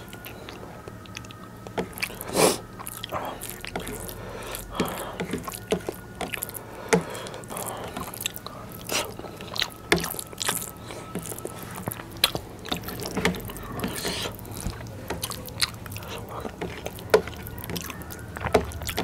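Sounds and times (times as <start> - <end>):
fingers squishing rice: 0.0 - 19.0
wet chewing and lip smacks: 0.0 - 19.0.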